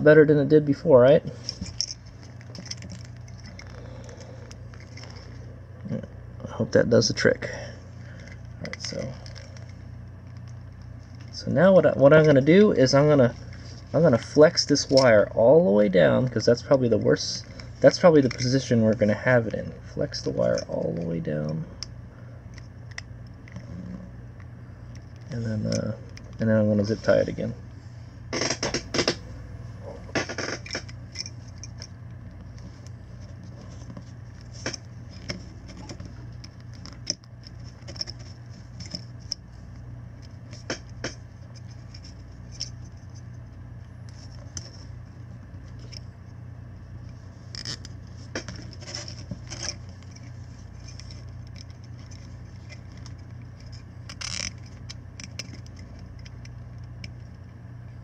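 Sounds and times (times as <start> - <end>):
steady low hum: 0.0 - 58.0
fingers handling wires and plastic: 1.4 - 6.0, 8.1 - 27.5, 30.1 - 58.0.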